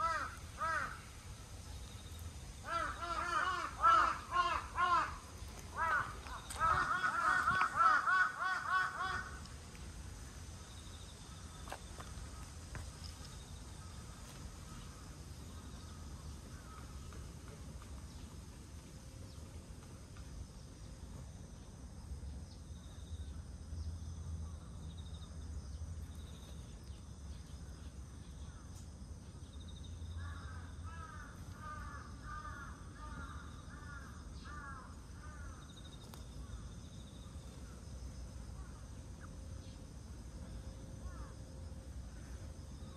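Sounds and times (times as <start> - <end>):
distant traffic rumble: 0.0 - 42.9.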